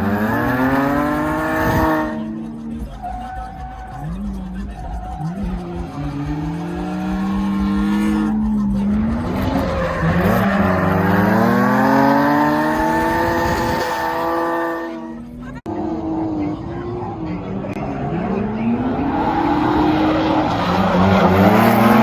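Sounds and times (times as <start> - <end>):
car engine revving hard: 0.0 - 2.9, 4.0 - 16.7, 18.1 - 22.0.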